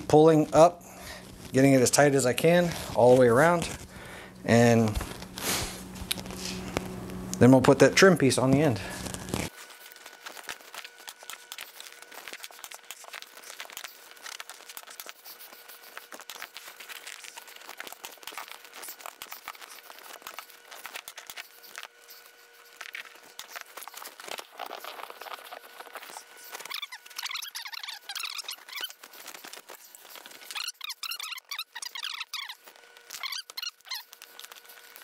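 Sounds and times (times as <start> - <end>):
faint steady hum: 0.0 - 35.0
vinyl crinkling and rustling: 0.1 - 35.0.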